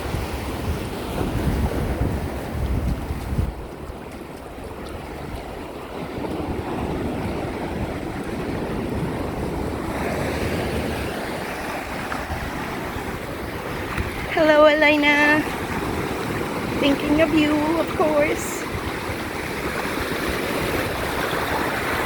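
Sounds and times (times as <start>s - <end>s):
waves washing on beach: 0.0s - 22.0s
wind rumble on microphone: 0.0s - 22.0s.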